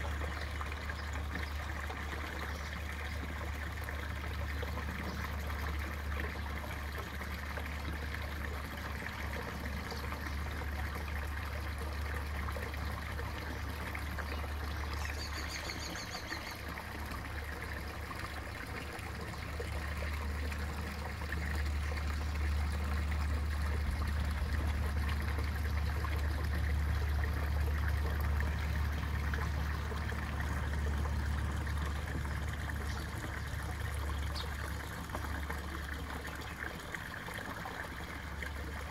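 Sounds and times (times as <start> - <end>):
constant low rumble: 0.0 - 38.9
water trickling into a pond: 0.0 - 38.9.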